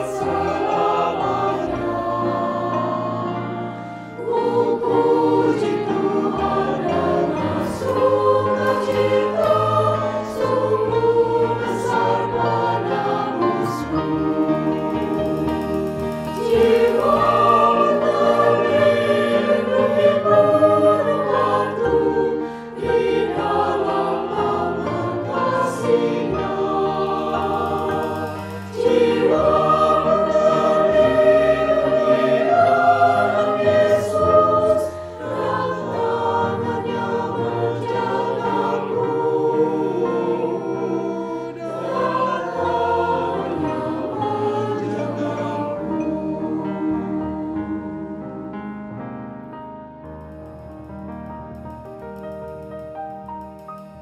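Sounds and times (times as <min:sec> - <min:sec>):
choir singing a hymn: 0:00.0 - 0:49.2.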